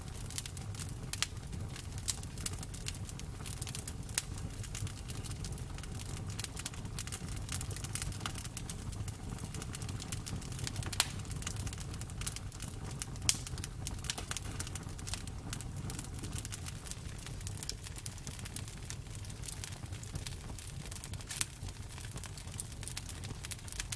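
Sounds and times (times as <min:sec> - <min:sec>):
campfire crackling: 0:00.0 - 0:23.9.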